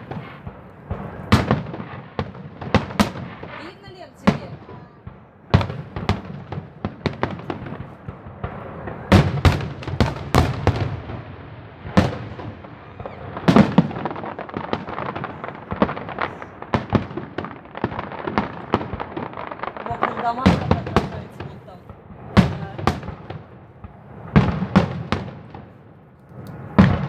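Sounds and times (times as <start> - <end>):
fireworks bangs: 0.0 - 27.0
fireworks crackling pops: 0.0 - 27.0.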